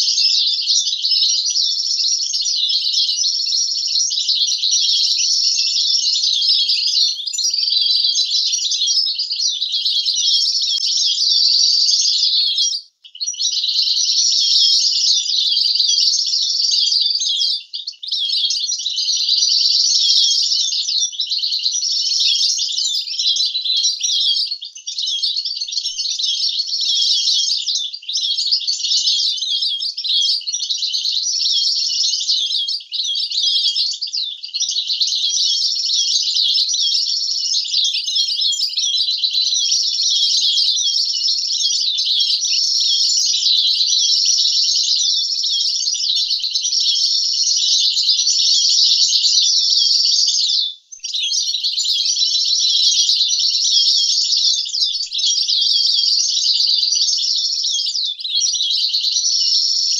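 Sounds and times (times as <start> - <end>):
finch singing twittering song: 0.0 - 59.9.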